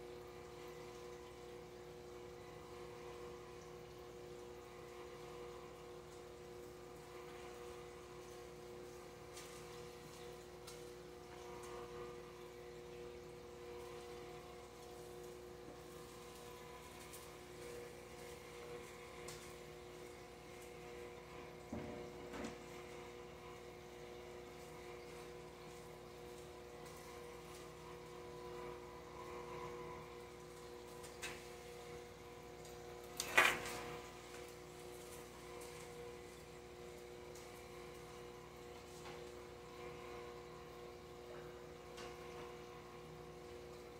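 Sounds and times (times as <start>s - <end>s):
aquarium air pump humming: 0.0s - 43.9s.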